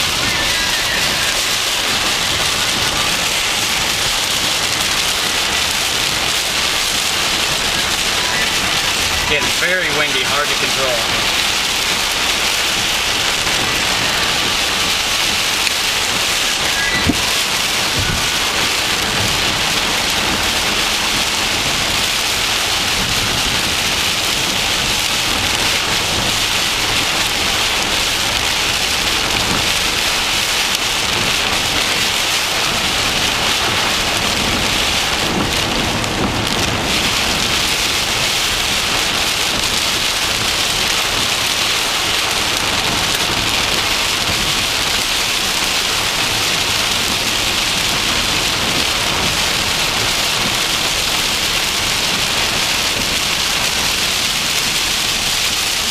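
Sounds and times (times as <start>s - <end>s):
heavy rain on a vehicle: 0.0s - 55.9s.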